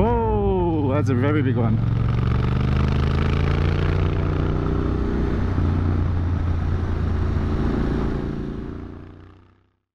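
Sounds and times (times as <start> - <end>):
motorcycle engine running: 0.0 - 9.8
road noise: 0.0 - 9.8.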